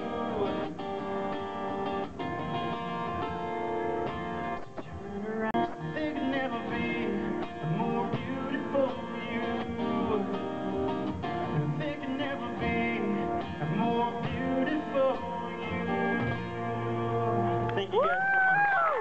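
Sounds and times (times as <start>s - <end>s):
man singing into a microphone: 0.0s - 1.2s, 4.8s - 18.9s
acoustic guitar strumming: 0.0s - 18.0s.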